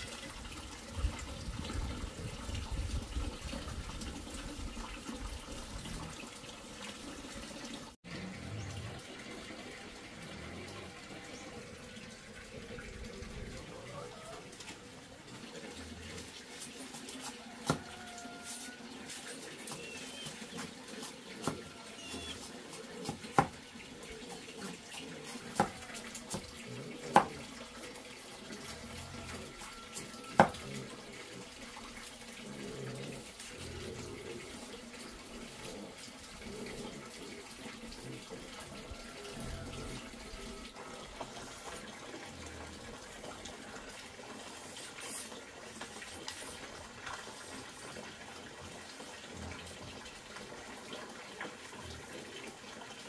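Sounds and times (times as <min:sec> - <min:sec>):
running water: 0:00.0 - 0:53.0.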